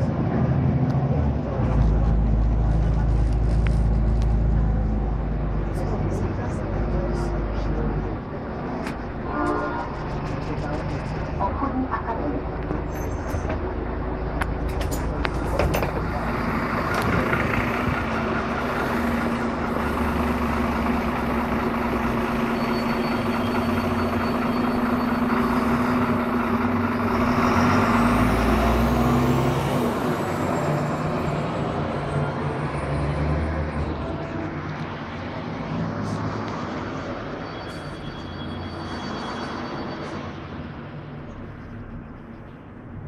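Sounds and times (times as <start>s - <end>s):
bus engine running: 0.0s - 43.0s.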